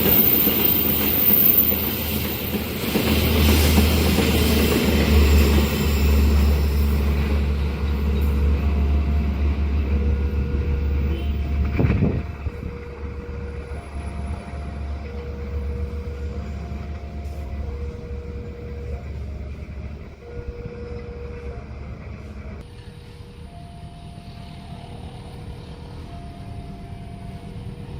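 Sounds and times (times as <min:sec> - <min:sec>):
train rumbling past: 0:00.0 - 0:27.9
two-tone crossing alarm: 0:03.0 - 0:22.6, 0:23.3 - 0:27.9.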